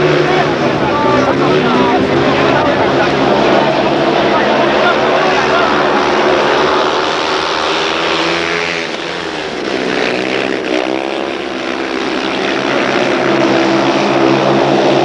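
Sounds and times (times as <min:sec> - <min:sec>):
motorcycles racing: 0:00.0 - 0:15.0.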